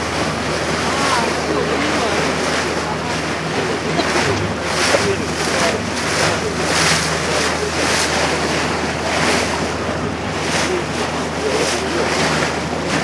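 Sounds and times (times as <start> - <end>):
boat engine hum: 0.0 - 13.0
water splashing along hull: 0.0 - 13.0.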